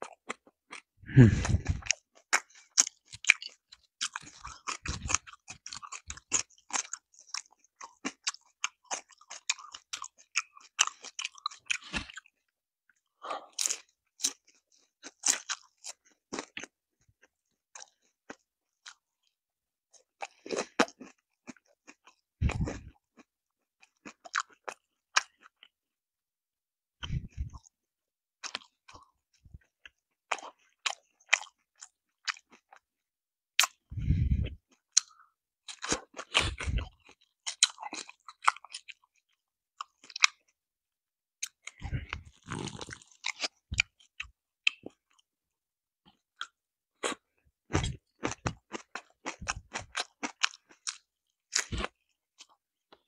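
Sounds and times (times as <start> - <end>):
crunchy chewing of fried chicken: 0.0 - 25.8, 28.4 - 32.9, 33.6 - 40.6, 41.4 - 45.4, 46.1 - 53.0.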